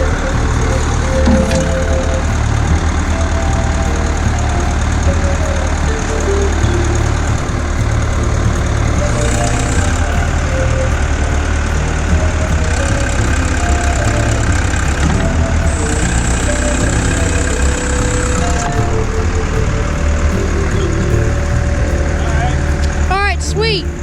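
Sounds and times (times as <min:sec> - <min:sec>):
backhoe engine idling: 0:00.0 - 0:24.0.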